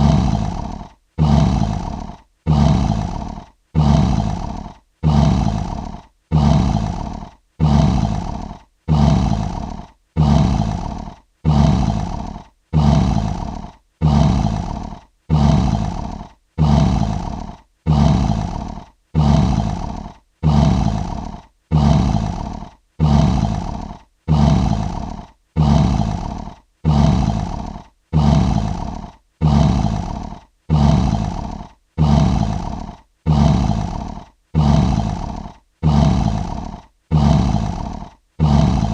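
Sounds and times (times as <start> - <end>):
lion roar: 0.0 - 38.9.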